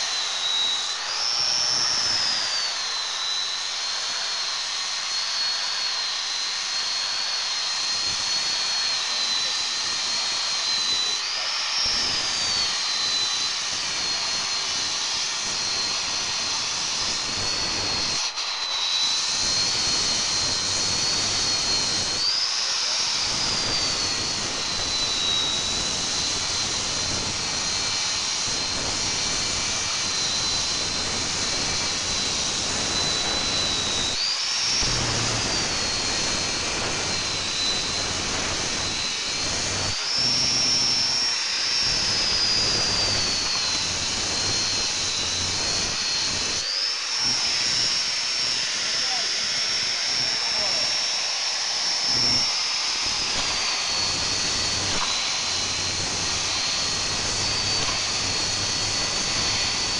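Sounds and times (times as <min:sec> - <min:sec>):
belt grinder grinding steel: 0:00.0 - 0:59.9.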